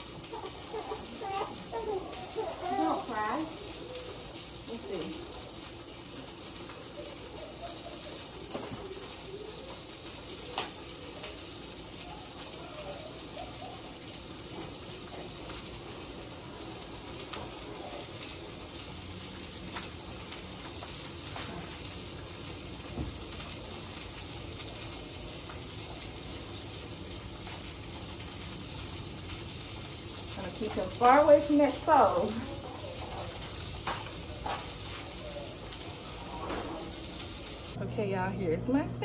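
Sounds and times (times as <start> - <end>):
fish sizzling in a pan: 0.0 - 37.8.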